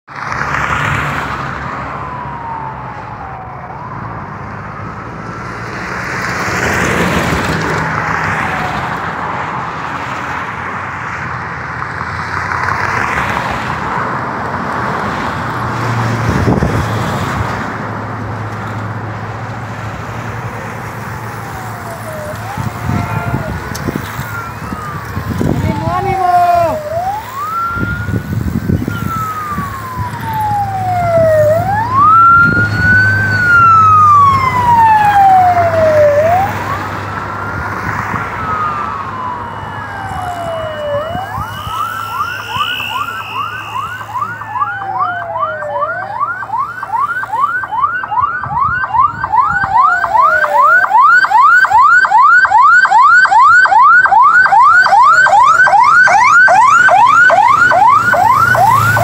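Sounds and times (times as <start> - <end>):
police siren wailing: 0.2 - 59.0
fast siren yelp: 1.4 - 10.2, 19.9 - 59.0.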